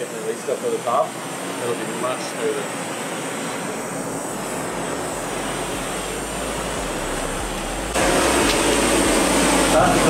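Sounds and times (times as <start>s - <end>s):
propane torch hissing: 0.0s - 10.0s.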